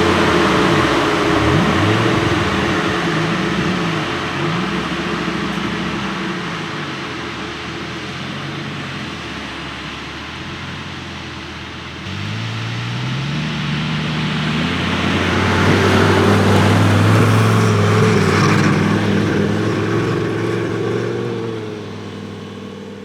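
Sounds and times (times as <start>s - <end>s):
car engine driving: 0.0s - 23.0s.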